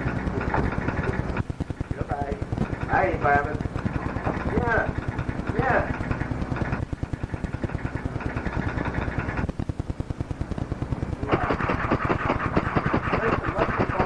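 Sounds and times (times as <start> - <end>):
busy noise: 0.0 - 14.0
rapid mechanical clicking: 0.0 - 14.0.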